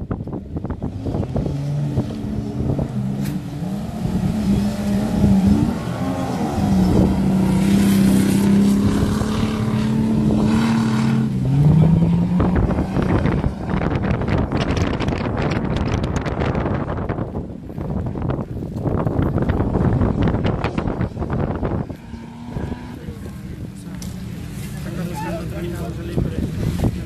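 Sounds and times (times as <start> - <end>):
wind buffeting microphone: 0.0 - 24.6, 25.5 - 27.0
off-road vehicle engine revving: 0.3 - 17.3, 18.9 - 27.0.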